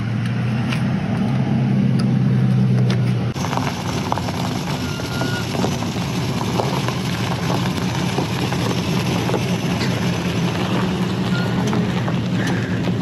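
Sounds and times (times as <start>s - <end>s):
car engine idling: 2.0s - 13.0s.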